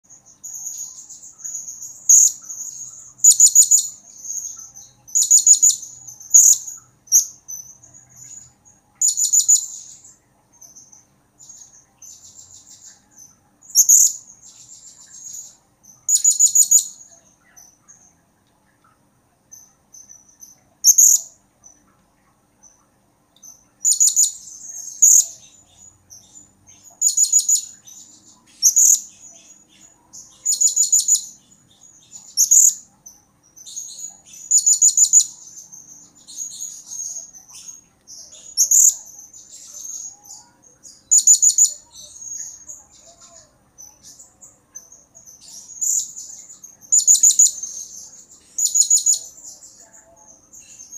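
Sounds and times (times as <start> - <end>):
parrot chirping and trilling: 0.1 - 10.1, 10.7 - 17.8, 20.0 - 21.8, 23.8 - 50.9.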